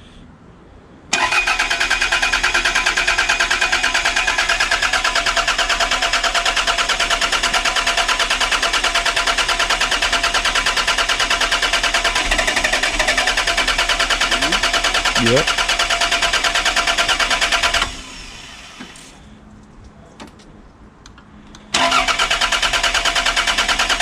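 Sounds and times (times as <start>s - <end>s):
starter motor cranking engine: 1.1s - 19.2s, 21.7s - 24.0s.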